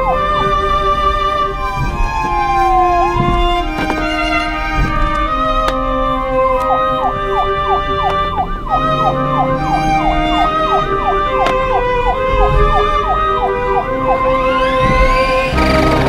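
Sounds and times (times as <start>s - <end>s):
background music: 0.0s - 16.0s
rising glide: 0.0s - 16.0s
yelping siren: 0.0s - 16.0s.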